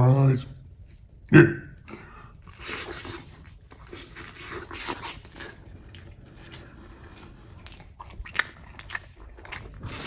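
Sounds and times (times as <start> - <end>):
chewing pizza: 0.8 - 10.0.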